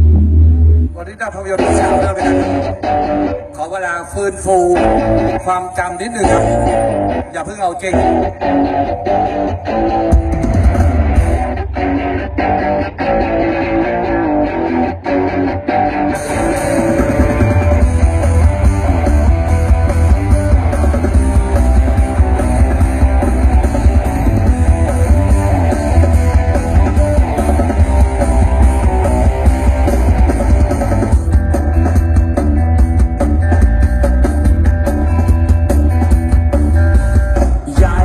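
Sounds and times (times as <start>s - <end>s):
rock music over loudspeakers: 0.0s - 38.0s.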